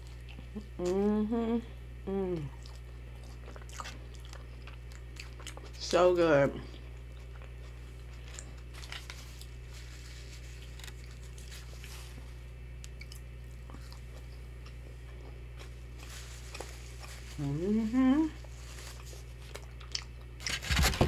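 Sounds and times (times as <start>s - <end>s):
person chewing crunchy food: 0.0s - 1.2s, 1.9s - 5.8s, 6.6s - 21.0s
steady low hum: 0.0s - 21.0s.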